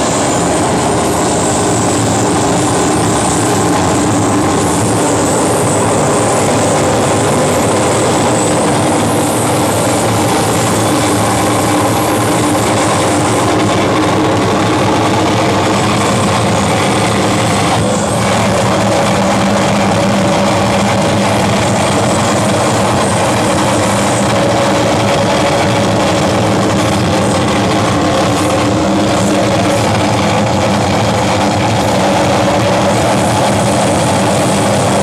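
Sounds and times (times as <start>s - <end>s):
steady droning tones: 0.0s - 35.0s
wall of electronic noise: 0.0s - 35.0s.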